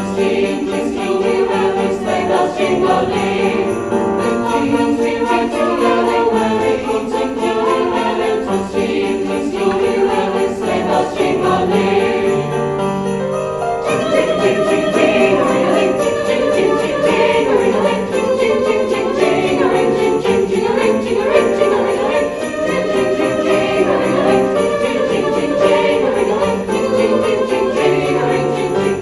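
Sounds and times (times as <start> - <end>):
sleigh bells jingling: 0.0 - 29.0.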